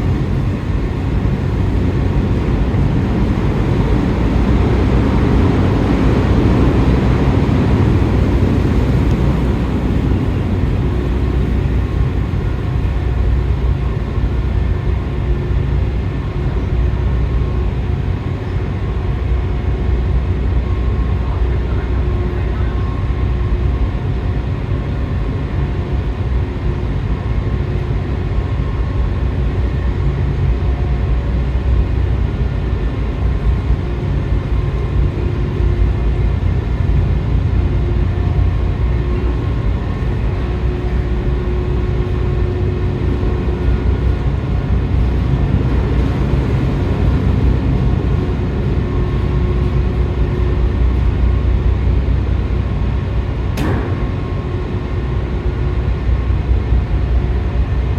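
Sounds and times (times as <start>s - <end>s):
ship machinery rumbling: 0.0s - 57.9s.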